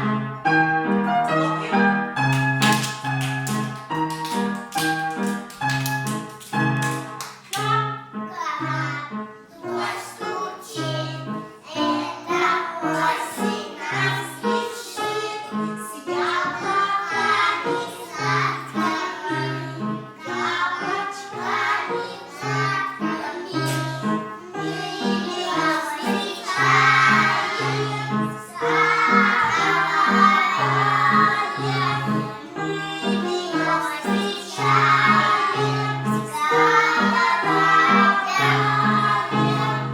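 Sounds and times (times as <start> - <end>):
children singing: 6.6 - 39.9.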